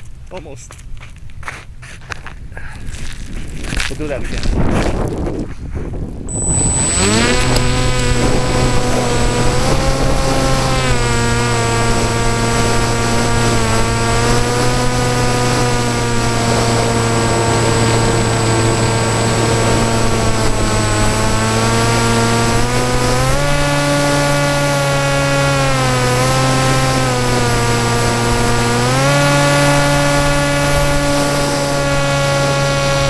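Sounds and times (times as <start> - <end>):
electric motor and propeller: 6.3 - 33.0.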